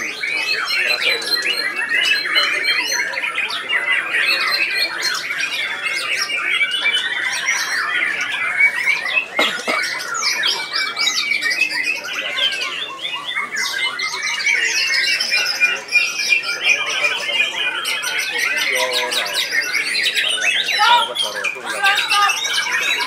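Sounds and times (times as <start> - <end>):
birds singing: 0.0 - 23.0.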